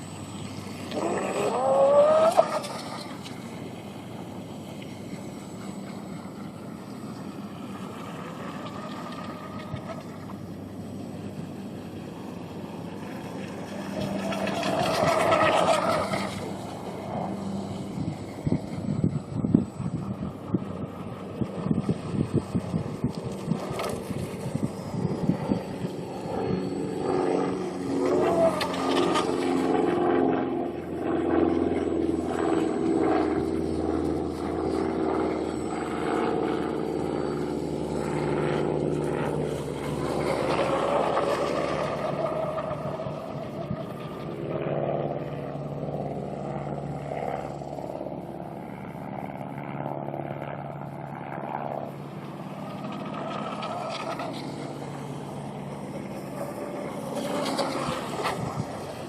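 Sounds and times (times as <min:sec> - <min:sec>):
rc boat motor whine: 0:00.0 - 0:59.0.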